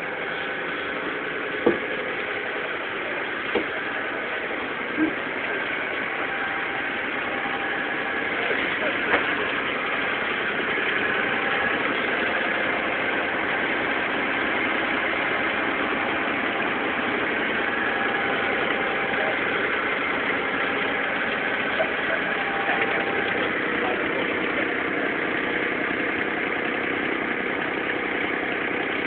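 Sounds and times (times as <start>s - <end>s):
boat diesel engine running: 0.0s - 29.0s.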